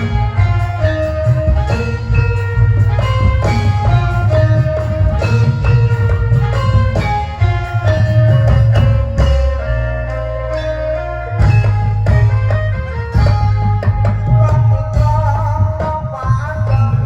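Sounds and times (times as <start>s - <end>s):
heavy drumming: 0.0s - 17.0s
stepping melody: 0.0s - 17.0s.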